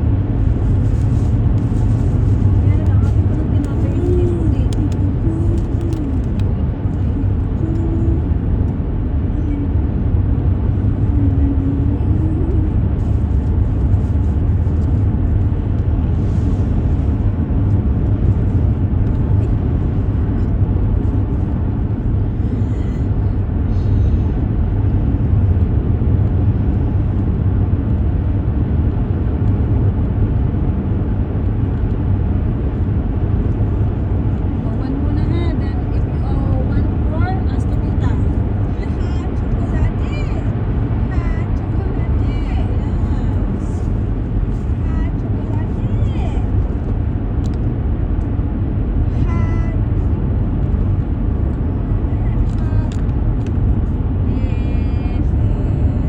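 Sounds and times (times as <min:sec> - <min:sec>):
tyre road noise: 0:00.0 - 0:54.5
car engine rumble: 0:00.0 - 0:56.0.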